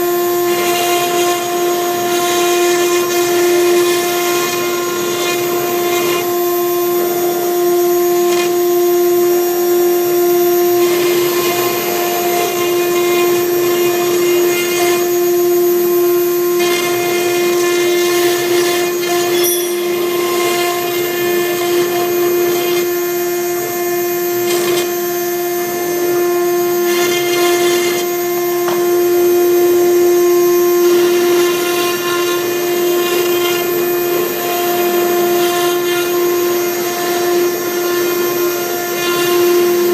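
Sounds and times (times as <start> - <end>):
bit cutting through board: 0.0 - 7.5, 10.6 - 15.5, 16.4 - 25.1, 25.8 - 29.4, 30.5 - 39.9
router spindle high-pitched whine: 0.0 - 39.9.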